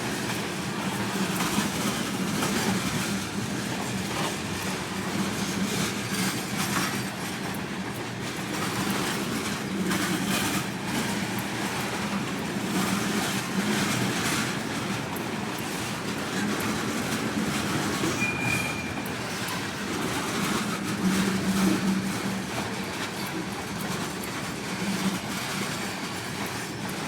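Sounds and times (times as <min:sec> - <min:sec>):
clicks and clatter of train cars: 0:00.0 - 0:27.0
freight train wheels rumbling on rails: 0:00.0 - 0:27.0.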